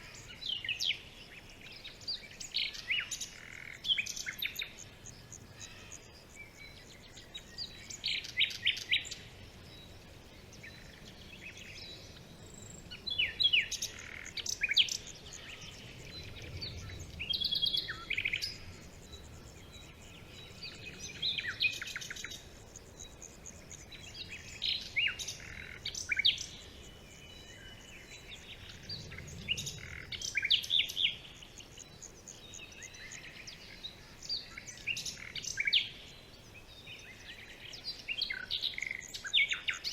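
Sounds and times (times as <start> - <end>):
small birds singing and calling: 0.0 - 39.9.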